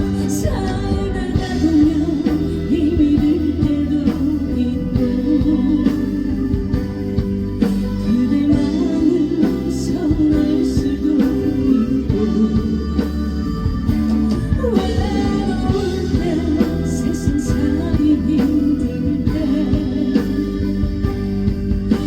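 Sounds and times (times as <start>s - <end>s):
live band with drums and guitar: 0.0s - 22.0s
woman singing: 0.0s - 22.0s.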